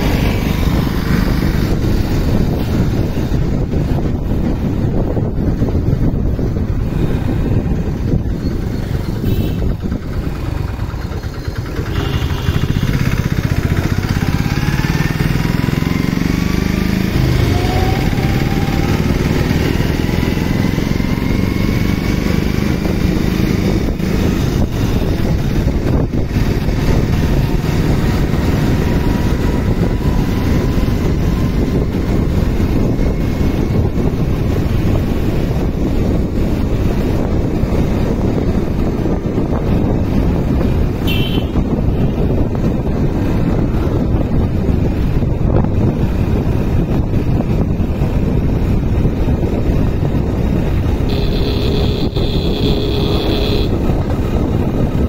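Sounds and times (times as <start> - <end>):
motorcycle engine revving: 0.0 - 55.0
wind on microphone: 0.0 - 55.0.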